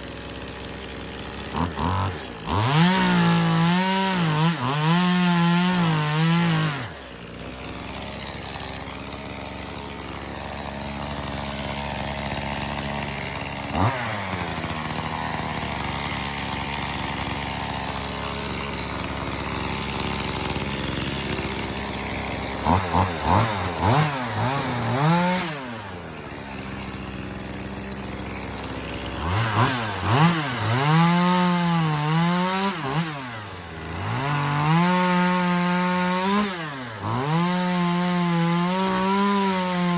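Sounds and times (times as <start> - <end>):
chainsaw cutting wood: 0.0 - 39.9
chainsaw revving and idling: 0.0 - 39.9.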